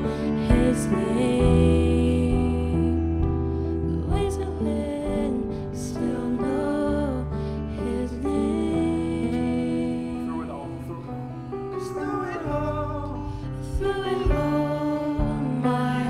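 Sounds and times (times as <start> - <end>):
band holding sustained chords: 0.0 - 16.0
person singing: 0.0 - 16.0.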